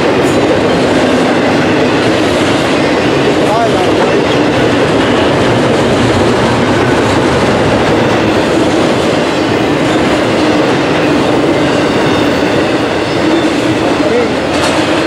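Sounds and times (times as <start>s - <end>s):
steel train wheels rumbling on rails: 0.0s - 15.0s.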